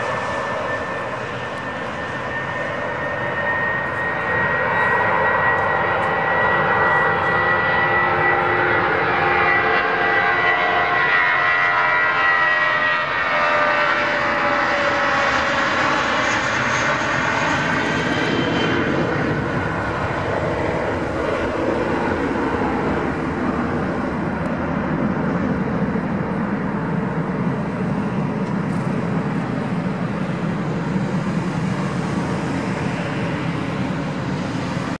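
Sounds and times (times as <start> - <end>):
jet engines at takeoff: 0.0 - 35.0.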